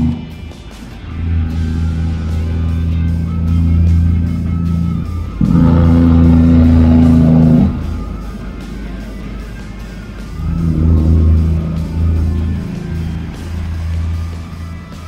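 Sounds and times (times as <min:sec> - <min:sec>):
guitar background music: 0:00.0 - 0:15.0
truck engine passing: 0:00.0 - 0:15.0.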